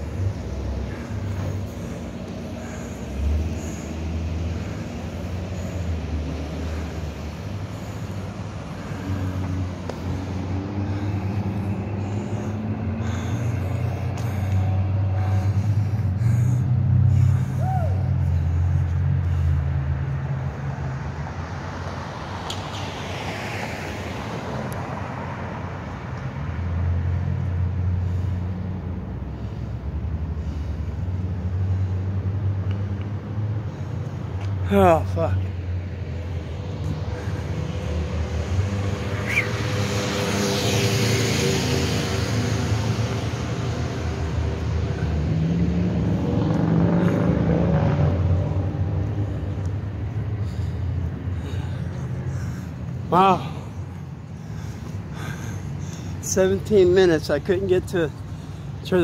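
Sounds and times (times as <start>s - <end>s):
vehicle engines passing: 0.0s - 59.0s.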